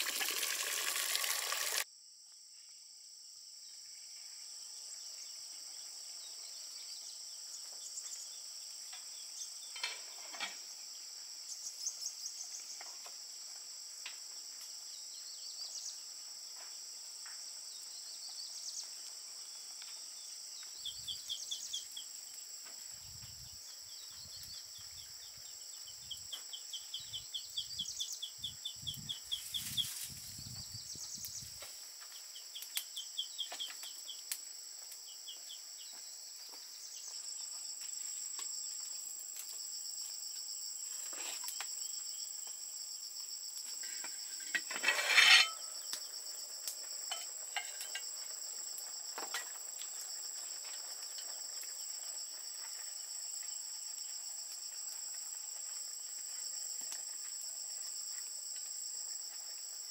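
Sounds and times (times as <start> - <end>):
insects trilling: 0.0 - 2.9, 3.6 - 59.9.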